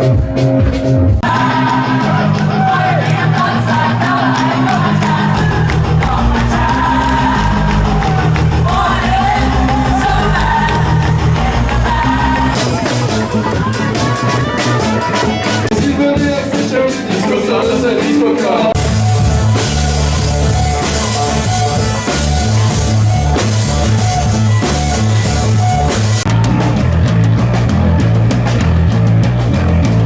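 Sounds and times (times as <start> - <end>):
heavy bass line: 0.0 - 30.0
rock music with drums and guitar: 0.0 - 30.0.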